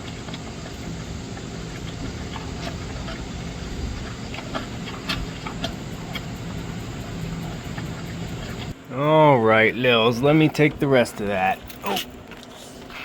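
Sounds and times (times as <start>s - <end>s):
dog chewing bones: 0.0s - 8.8s, 10.1s - 13.0s
low steady hum: 0.0s - 13.0s.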